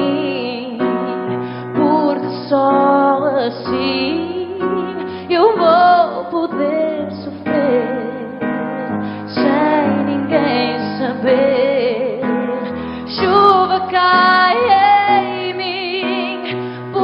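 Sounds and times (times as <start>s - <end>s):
musical accompaniment: 0.0s - 17.0s
woman singing a ballad: 0.0s - 17.0s.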